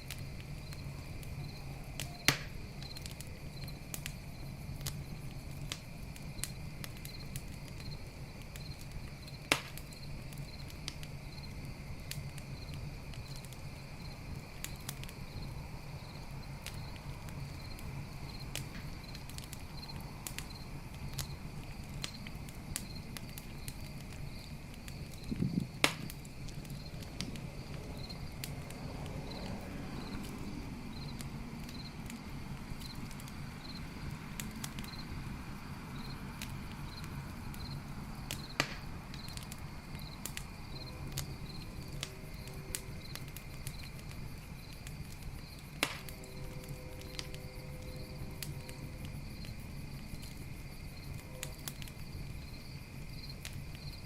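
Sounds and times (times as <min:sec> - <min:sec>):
campfire crackling and popping: 0:00.0 - 0:54.0
cricket chirping: 0:00.0 - 0:54.0.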